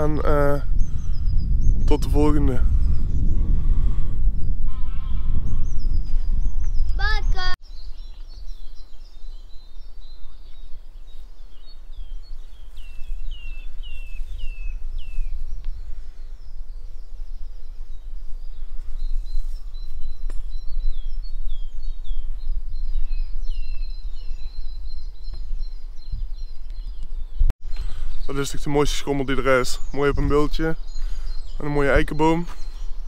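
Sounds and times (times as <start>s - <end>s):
birds singing: 0.0s - 33.0s.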